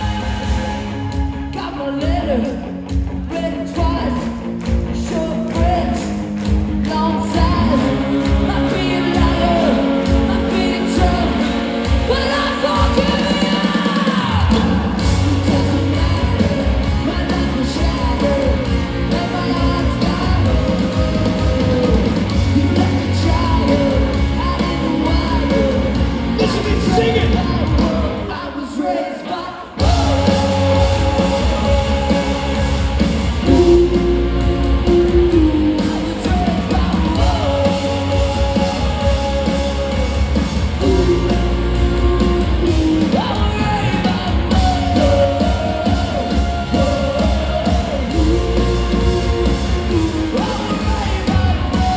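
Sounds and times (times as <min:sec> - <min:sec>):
woman singing lead vocal: 0:00.0 - 0:02.7, 0:06.8 - 0:51.9
bass guitar: 0:00.0 - 0:28.7, 0:29.7 - 0:51.9
drums: 0:00.0 - 0:51.9
electric guitar: 0:00.0 - 0:51.9.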